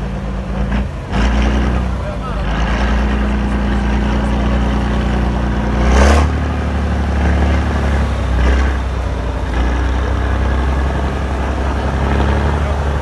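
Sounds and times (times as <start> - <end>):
truck engine working hard: 0.0 - 13.0.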